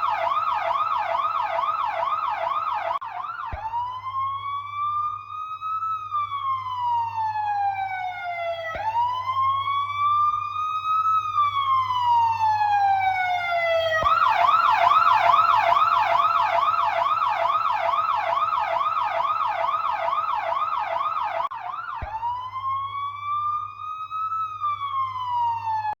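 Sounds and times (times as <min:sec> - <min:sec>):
electronic siren wailing and yelping: 0:00.0 - 0:26.0.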